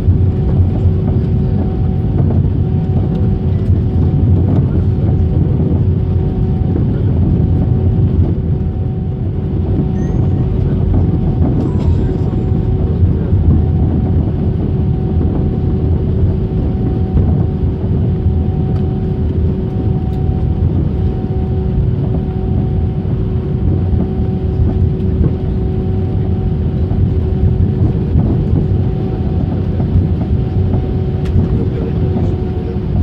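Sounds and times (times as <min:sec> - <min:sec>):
airliner cabin engine rumble: 0:00.0 - 0:33.0
constant hum tone: 0:00.0 - 0:33.0.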